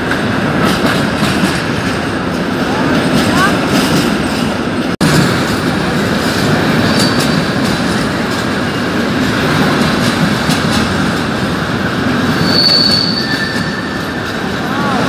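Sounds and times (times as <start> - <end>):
steel wheels rolling on rail: 0.0 - 15.0.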